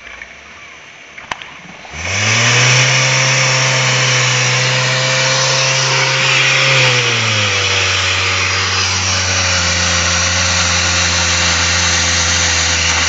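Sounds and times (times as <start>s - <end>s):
small pump engine running: 1.9s - 13.0s.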